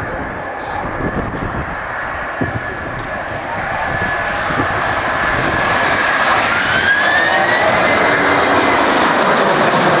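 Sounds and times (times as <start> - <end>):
jet engines roaring: 0.0 - 10.0
rising jet engine whine: 0.0 - 10.0.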